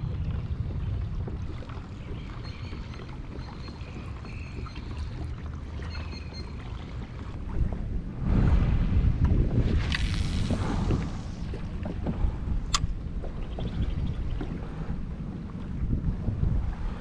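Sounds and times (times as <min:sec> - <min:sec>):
low rumble of water and hull: 0:00.0 - 0:17.0.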